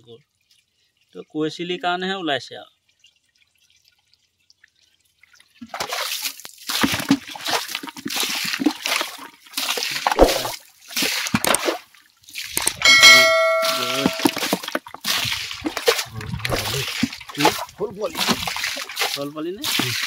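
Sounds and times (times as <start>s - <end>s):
water splashing: 3.4s - 20.0s.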